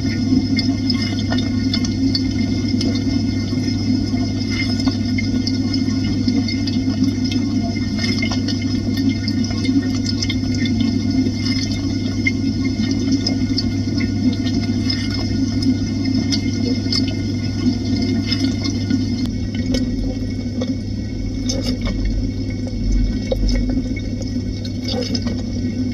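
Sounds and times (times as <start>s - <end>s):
dishwasher pump humming: 0.0s - 25.9s.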